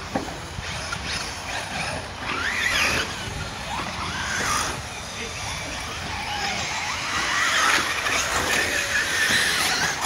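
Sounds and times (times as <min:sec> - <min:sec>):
rc car motors whining: 0:00.0 - 0:10.0.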